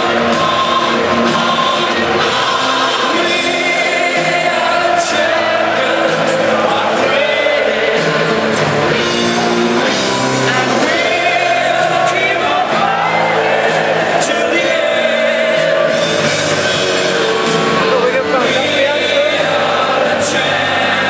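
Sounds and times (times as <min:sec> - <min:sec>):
rock song over pa system: 0:00.0 - 0:21.0.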